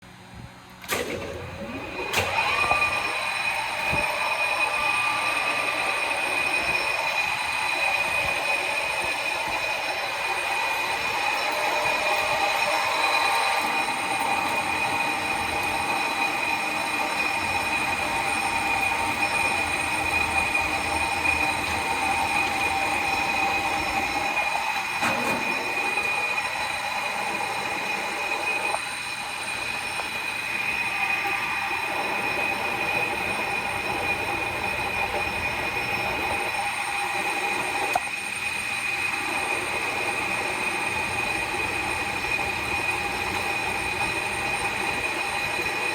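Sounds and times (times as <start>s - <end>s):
mechanical hum: 0.0s - 45.9s
lathe whining: 0.6s - 45.9s.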